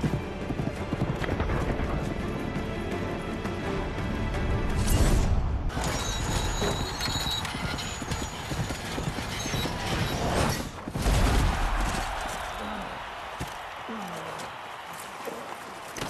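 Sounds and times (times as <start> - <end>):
horses galloping hoofbeats: 0.0 - 3.8, 5.7 - 10.8, 11.8 - 16.0.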